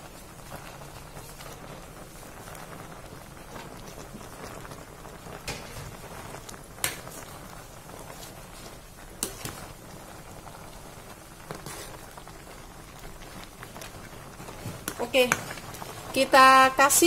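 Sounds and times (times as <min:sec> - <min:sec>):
water boiling in pot: 0:00.0 - 0:17.0.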